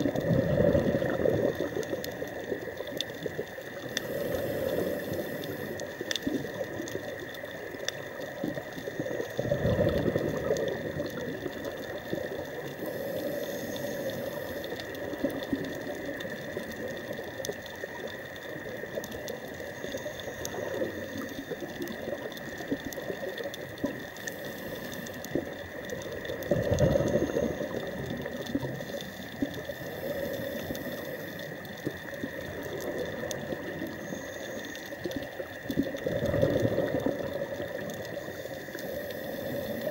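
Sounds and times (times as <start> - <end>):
regulator bubbles gurgling: 0.0 - 39.9
underwater watery hiss: 0.0 - 39.9.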